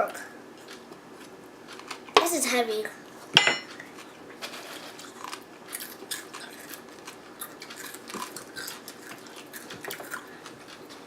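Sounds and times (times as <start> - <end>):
people chewing crunchy food: 0.1 - 2.2, 3.1 - 11.0.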